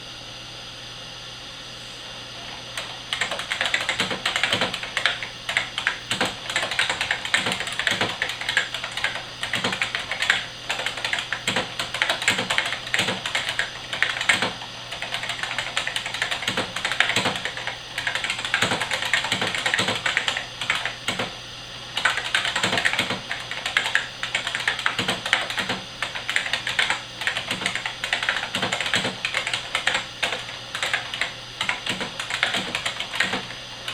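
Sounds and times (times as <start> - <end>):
faint steady hum: 0.0 - 33.9
mechanical keyboard typing clicks: 2.8 - 21.3, 22.0 - 33.9.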